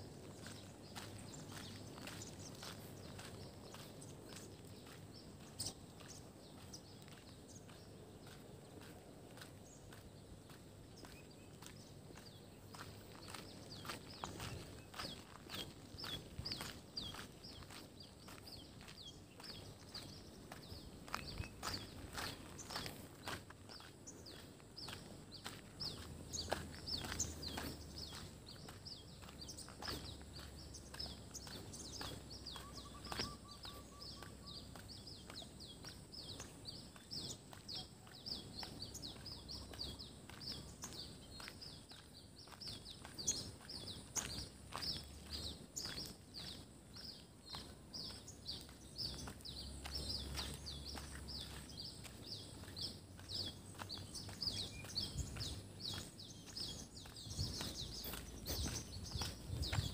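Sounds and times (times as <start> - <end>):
birds chirping: 0.0 - 59.9
footsteps on road: 0.0 - 59.9.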